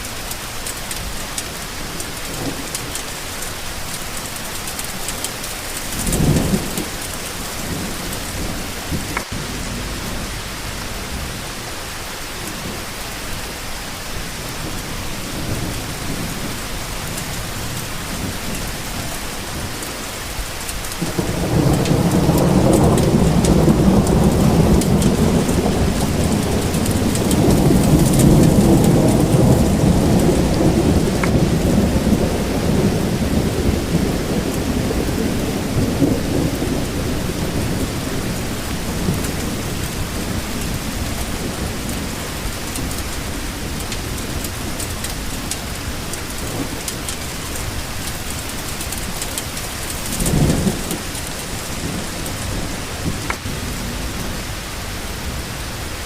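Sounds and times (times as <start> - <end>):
rain falling: 0.0 - 56.0
thunder rumbling: 0.0 - 56.0.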